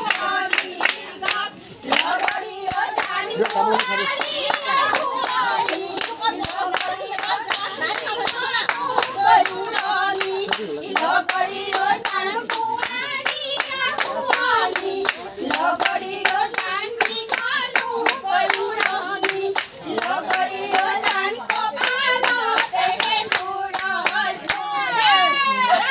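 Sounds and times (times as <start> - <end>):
rhythmic handclapping: 0.0 - 24.9
group singing folk song: 0.0 - 25.9.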